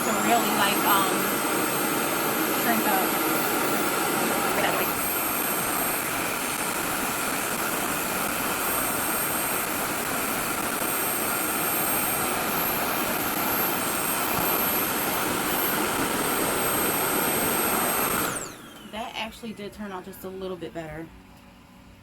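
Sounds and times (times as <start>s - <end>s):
hair dryer suction fan running: 0.0s - 22.0s.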